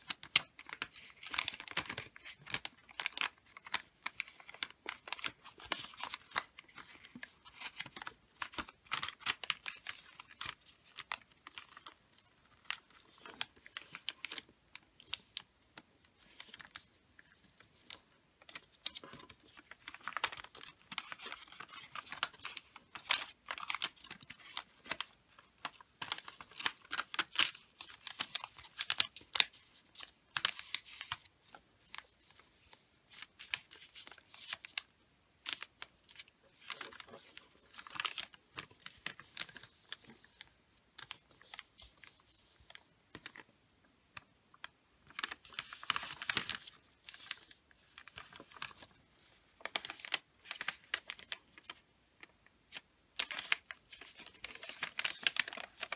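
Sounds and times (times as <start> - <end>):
wrapping paper rustling and crackling: 0.0 - 43.5, 44.2 - 55.9.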